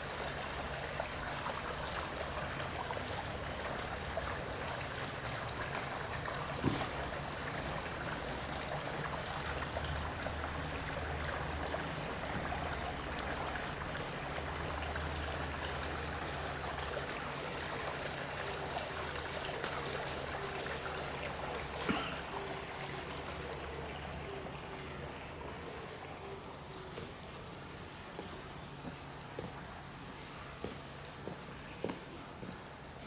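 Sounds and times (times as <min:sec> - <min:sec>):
running water: 0:00.0 - 0:33.0.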